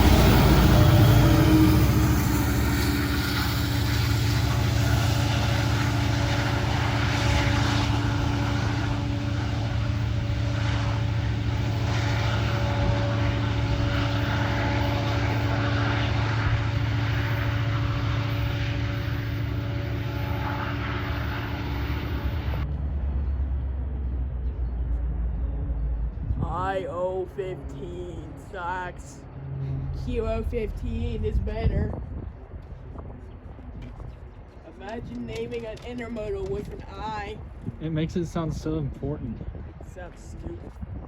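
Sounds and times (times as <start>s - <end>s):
diesel engine drone: 0.0s - 41.0s
train rumbling and rolling: 0.0s - 41.0s.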